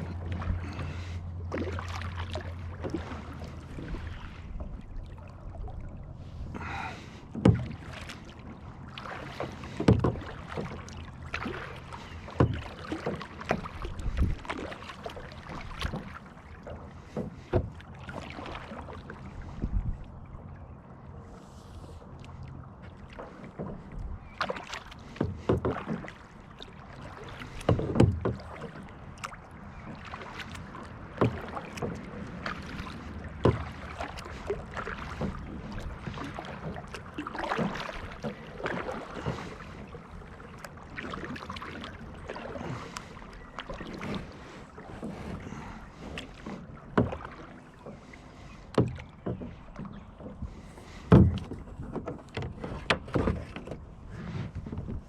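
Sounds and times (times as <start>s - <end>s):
paddle knocking on hull: 0.0s - 5.3s, 6.5s - 20.0s, 22.8s - 55.0s
paddle splashing in water: 0.0s - 55.0s.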